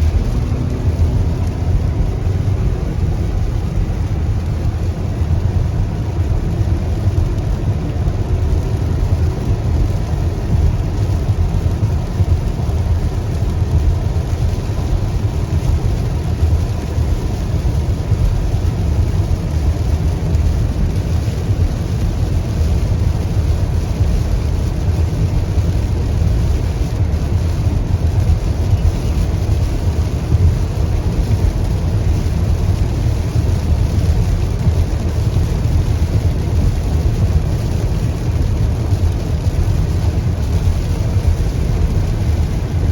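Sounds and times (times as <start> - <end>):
car interior engine rumble: 0.0 - 42.9
rain hiss: 0.0 - 42.9.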